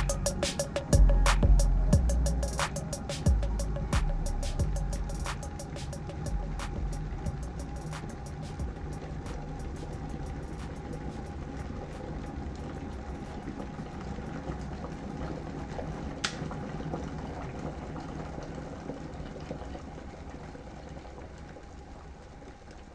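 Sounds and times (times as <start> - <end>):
kettle water boiling: 0.0 - 22.9.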